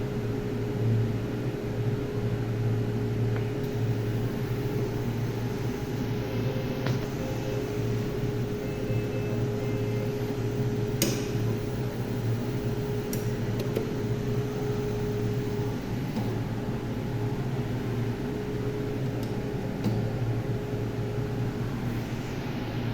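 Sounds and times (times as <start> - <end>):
machine mechanical hum: 0.0 - 22.9.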